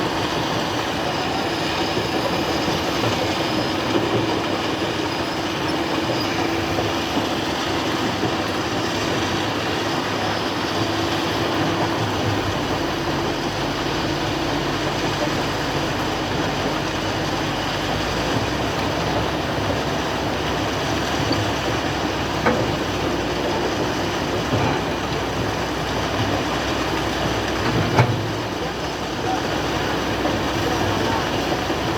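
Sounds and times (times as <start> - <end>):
excavator engine rumbling: 0.0 - 31.9.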